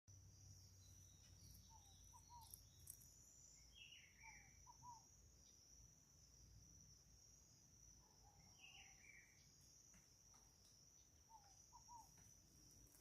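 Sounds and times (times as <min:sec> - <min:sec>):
bird chirp: 0:00.1 - 0:06.0, 0:07.4 - 0:13.0
insect trill: 0:00.1 - 0:13.0.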